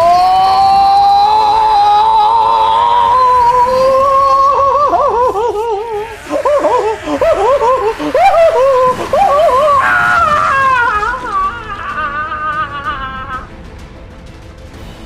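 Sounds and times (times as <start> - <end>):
man screaming loudly: 0.0 - 13.5.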